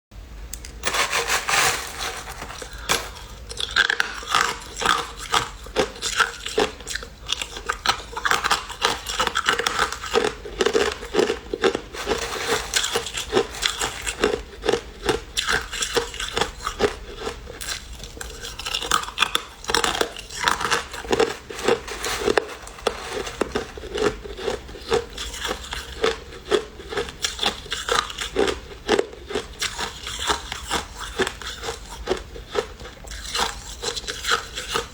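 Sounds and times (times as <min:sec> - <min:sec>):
ice crunching being chewed: 0:02.6 - 0:34.9.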